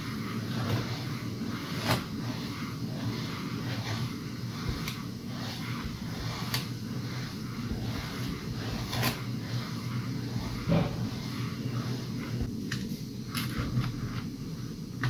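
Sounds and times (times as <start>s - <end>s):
pot shifting in sand rumble: 0.0s - 12.5s.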